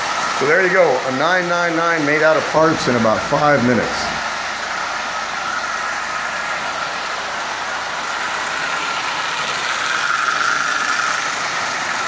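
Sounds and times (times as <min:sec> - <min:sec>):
toy train motor and wheel hum: 0:00.0 - 0:12.0.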